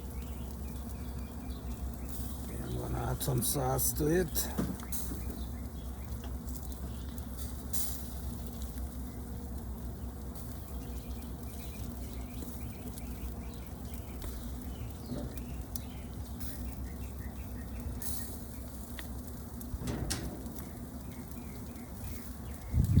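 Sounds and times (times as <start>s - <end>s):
chicken sizzling on grill: 0.0s - 23.0s
steady low hum: 0.0s - 23.0s.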